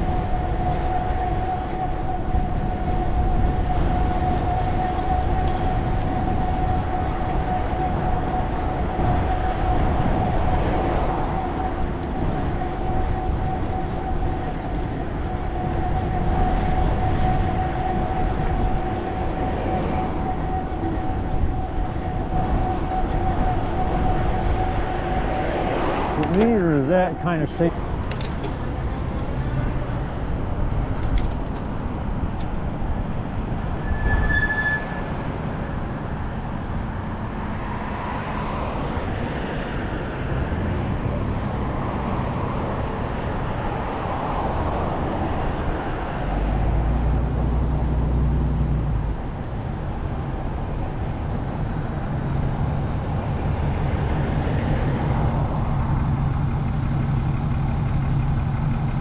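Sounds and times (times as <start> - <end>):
car engine: 0.0 - 59.0
road noise: 0.0 - 59.0.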